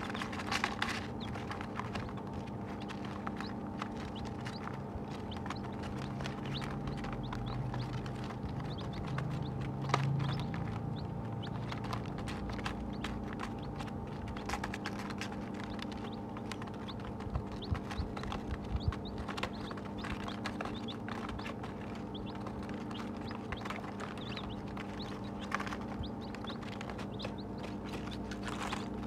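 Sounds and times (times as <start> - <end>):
chicks cheeping: 0.0 - 29.0
low hum: 0.0 - 29.0.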